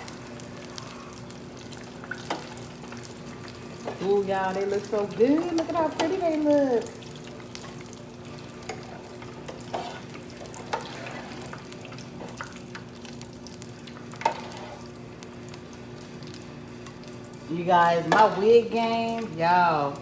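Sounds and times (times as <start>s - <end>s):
oil sizzling in deep fryer: 0.0s - 20.0s.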